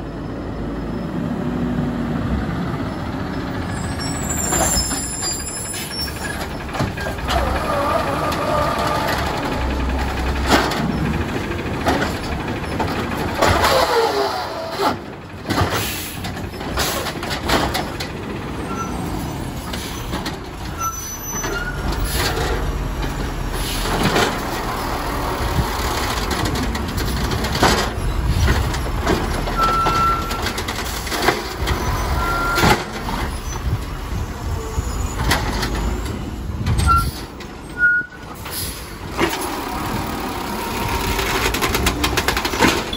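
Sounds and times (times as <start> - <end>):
garbage truck engine rumble: 0.0 - 42.9
knocks and bangs of carts: 3.7 - 34.3, 34.9 - 42.9.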